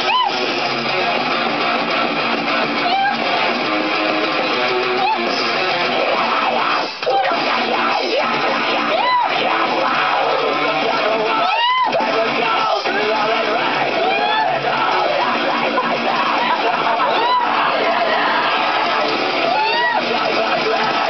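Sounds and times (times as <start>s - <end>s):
rock song with electric guitar: 0.0s - 21.0s.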